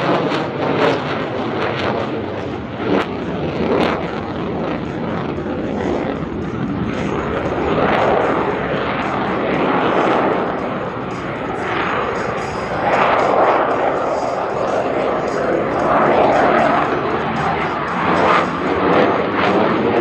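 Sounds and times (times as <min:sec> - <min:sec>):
jet engine afterburner roar: 0:00.0 - 0:20.0.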